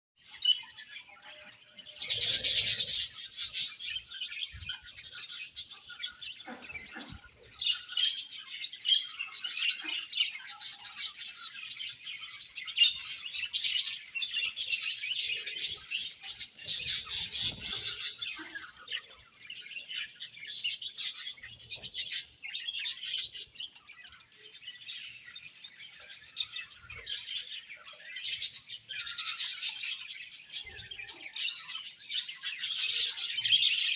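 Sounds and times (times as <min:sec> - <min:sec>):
budgerigars chirping and warbling: 0:00.2 - 0:33.9.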